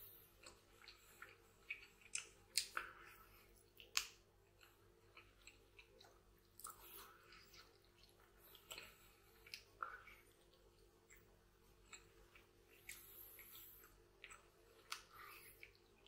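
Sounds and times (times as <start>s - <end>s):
person chewing meat: 0.0s - 16.0s
mouth clicks and smacks: 0.4s - 16.0s.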